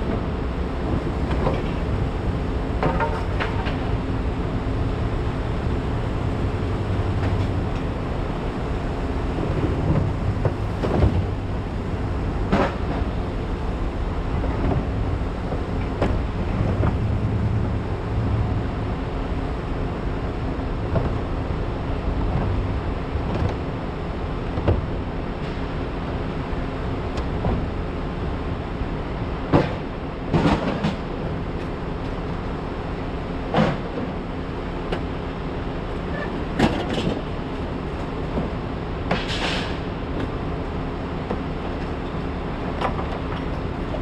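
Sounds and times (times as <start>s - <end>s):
truck engine and road noise: 0.0s - 44.0s.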